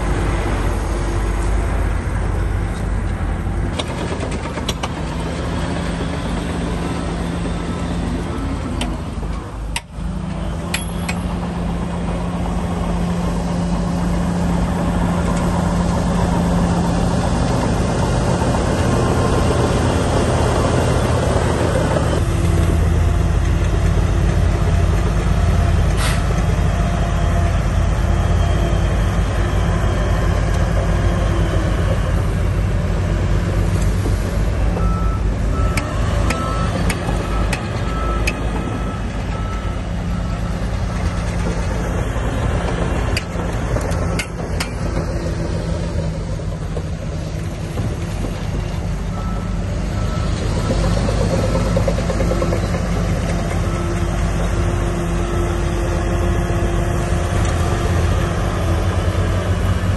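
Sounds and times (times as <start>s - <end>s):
deep engine rumble: 0.0s - 59.9s
heavy diesel machinery running: 0.0s - 59.9s.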